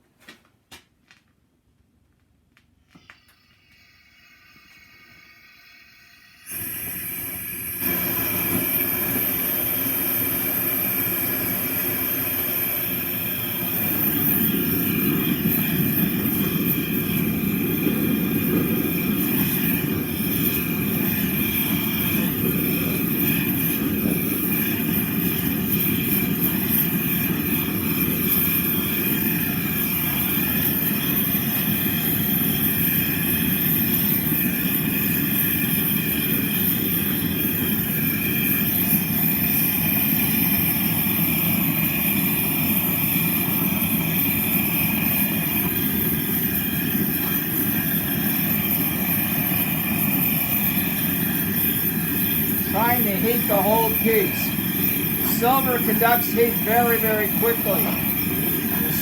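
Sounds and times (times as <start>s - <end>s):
torch flame roaring: 3.9s - 59.0s.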